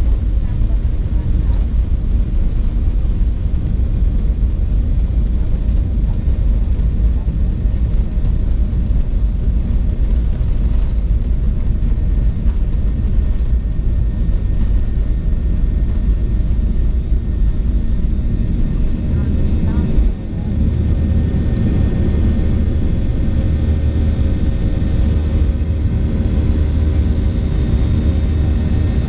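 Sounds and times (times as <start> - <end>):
airplane cabin rumble: 0.0 - 29.0.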